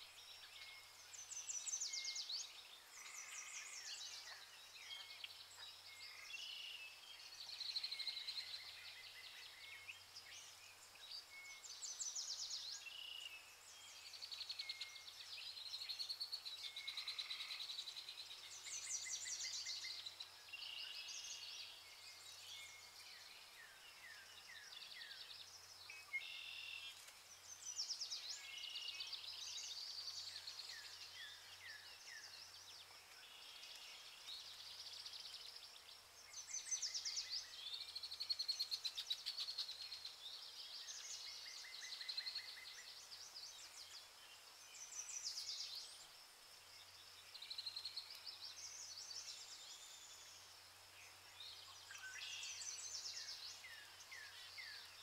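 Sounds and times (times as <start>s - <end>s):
faint chorus of birds: 0.0s - 55.0s.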